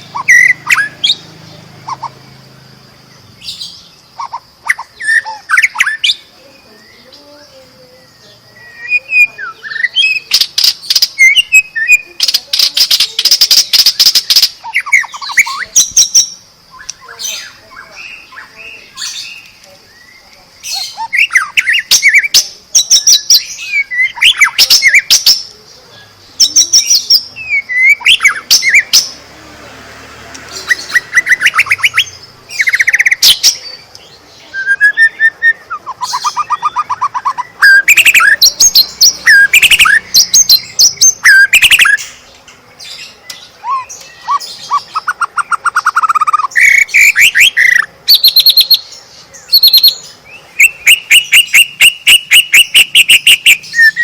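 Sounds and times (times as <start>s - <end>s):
sharp rattling bird notes: 0.0s - 54.0s
songbird singing: 0.0s - 54.0s.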